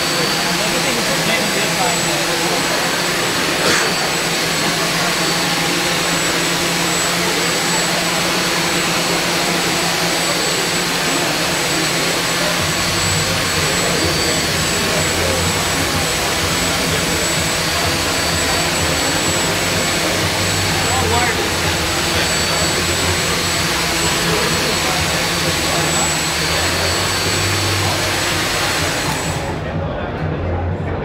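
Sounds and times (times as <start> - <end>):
deeper hum: 0.0 - 31.0
rotors whirring with high whine: 0.0 - 31.0.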